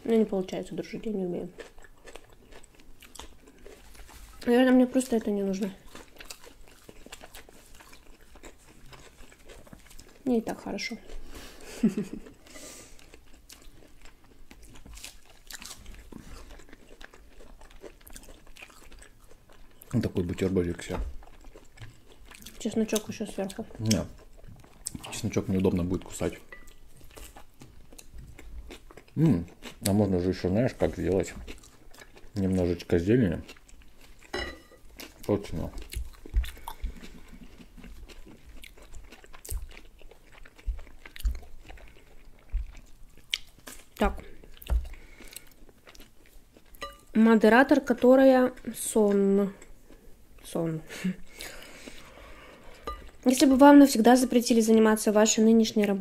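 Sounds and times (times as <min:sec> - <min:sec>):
crunchy chewing of cucumber: 0:01.0 - 0:11.3, 0:12.2 - 0:47.2.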